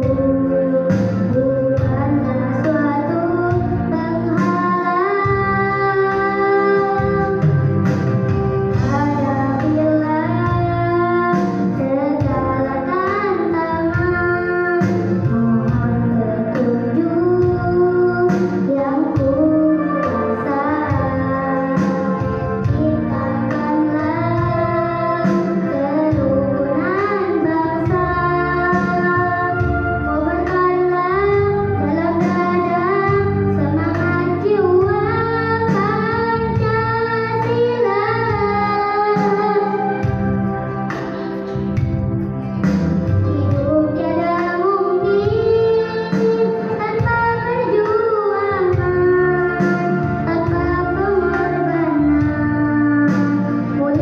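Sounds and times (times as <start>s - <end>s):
girl singing into a microphone: 0.0s - 54.0s
guitar accompaniment: 0.0s - 54.0s.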